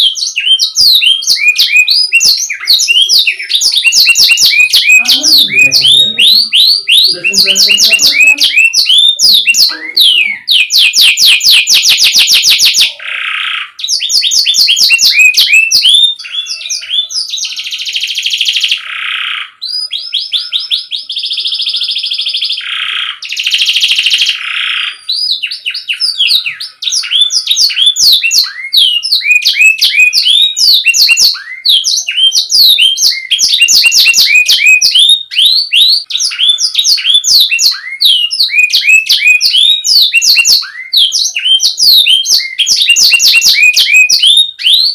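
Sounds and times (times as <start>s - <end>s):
canary trilling: 0.0s - 44.9s.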